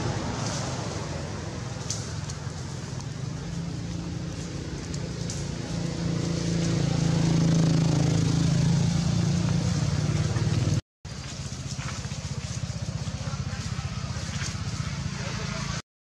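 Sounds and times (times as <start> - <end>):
engine humming: 0.0 - 15.8.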